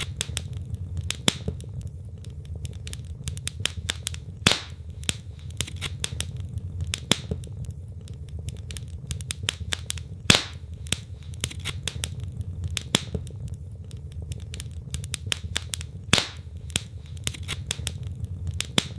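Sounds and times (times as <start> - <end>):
fire crackling: 0.0 - 18.9
logs popping: 0.0 - 18.9
low rumble of fire: 0.0 - 18.9.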